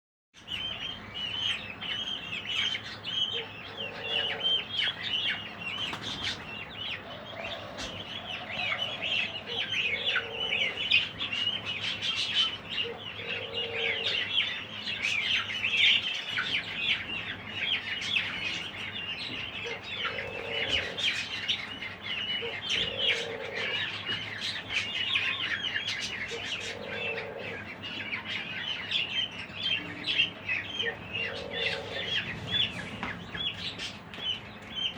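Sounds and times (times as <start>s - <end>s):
budgerigars chattering and chirping: 0.4s - 34.9s.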